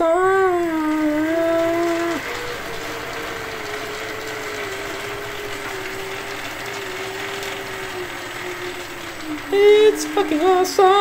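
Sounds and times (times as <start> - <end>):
chain mechanical rattle: 0.0 - 11.0
electric motor whine: 0.0 - 11.0.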